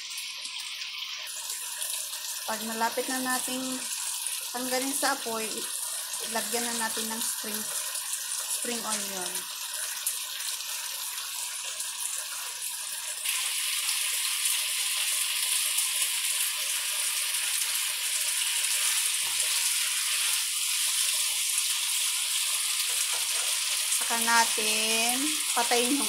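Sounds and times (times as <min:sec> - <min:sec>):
sauce sizzling in a wok: 0:00.0 - 0:26.0.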